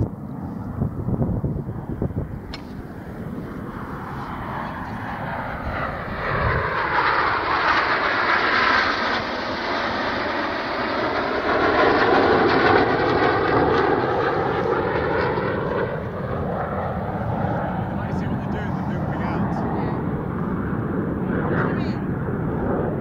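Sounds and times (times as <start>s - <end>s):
jets flying past: 0.0s - 23.0s.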